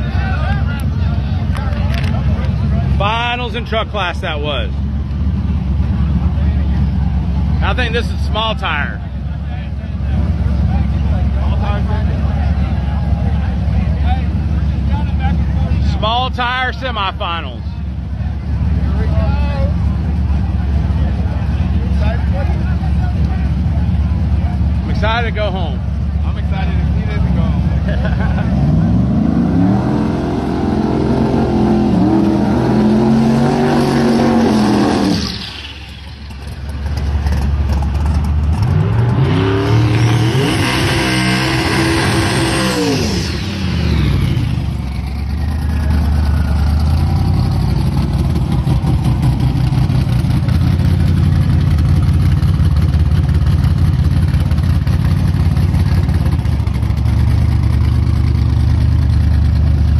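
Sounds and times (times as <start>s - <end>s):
race car engine idling: 0.0s - 29.1s, 30.9s - 40.3s, 41.3s - 59.9s
race car engines revving: 0.0s - 59.9s.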